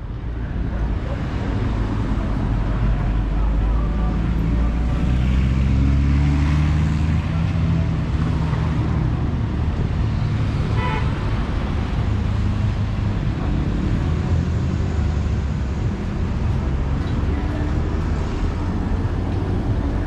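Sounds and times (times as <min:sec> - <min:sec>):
cars driving past: 0:00.6 - 0:20.0.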